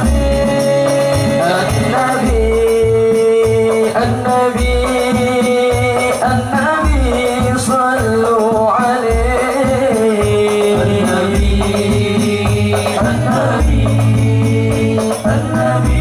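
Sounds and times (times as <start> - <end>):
frame drums: 0.0 - 16.0
men singing a devotional chant: 0.0 - 16.0.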